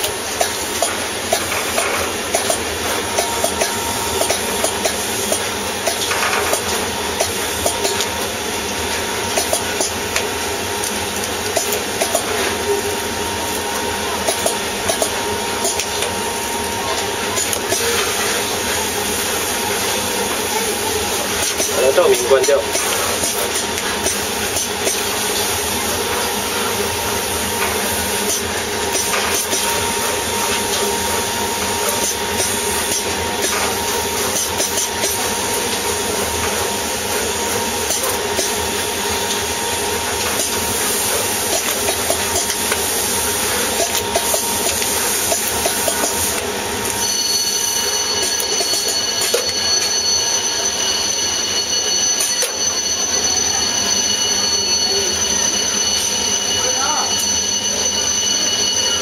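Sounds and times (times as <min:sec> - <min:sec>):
machine mechanical and air noise: 0:00.0 - 0:59.0
high steady tone: 0:09.9 - 0:59.0.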